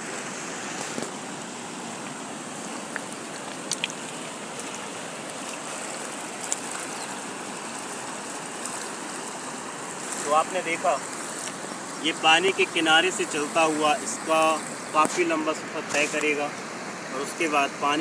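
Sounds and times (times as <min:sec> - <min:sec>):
fast-flowing river: 0:00.0 - 0:18.0.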